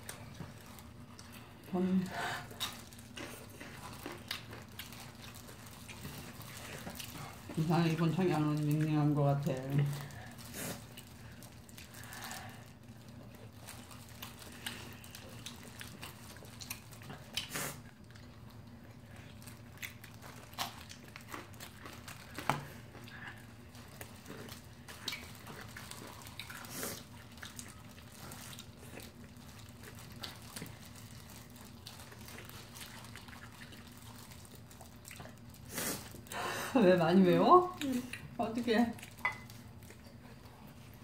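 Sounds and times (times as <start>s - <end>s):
chewing fried chicken: 0.0s - 41.0s
low steady hum: 0.0s - 41.0s.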